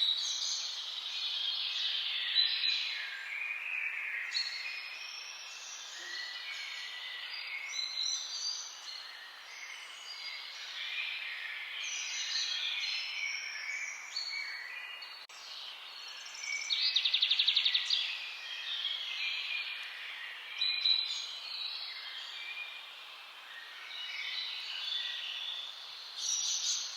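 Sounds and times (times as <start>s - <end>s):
songbirds chorus: 0.0s - 26.9s.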